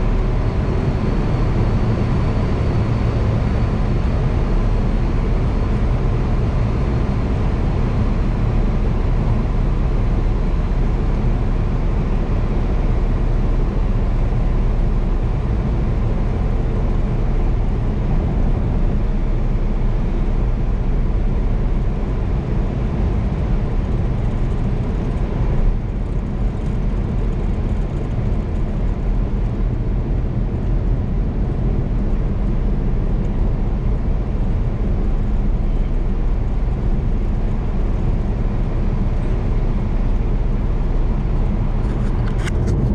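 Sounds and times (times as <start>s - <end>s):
car engine and road drone: 0.0s - 42.9s.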